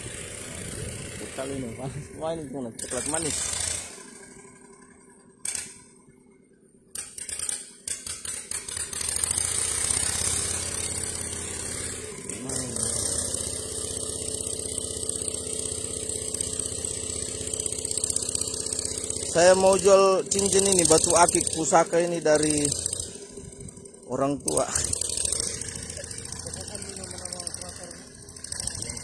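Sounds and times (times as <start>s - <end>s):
small engine running steadily: 0.0s - 29.0s.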